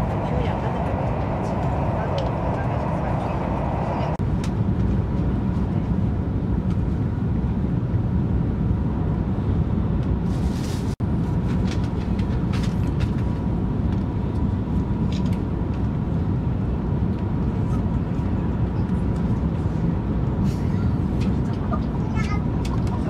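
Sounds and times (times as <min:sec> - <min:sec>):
train rumble inside carriage: 0:00.0 - 0:23.0.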